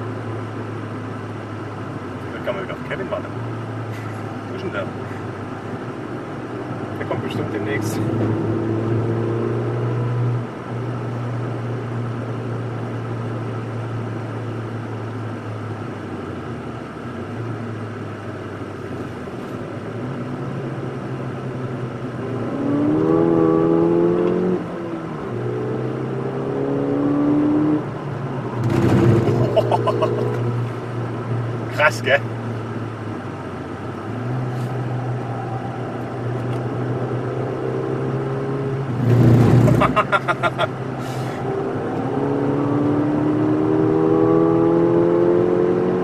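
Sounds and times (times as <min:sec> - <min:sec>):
car engine revving: 0:00.0 - 0:11.8, 0:18.5 - 0:46.0.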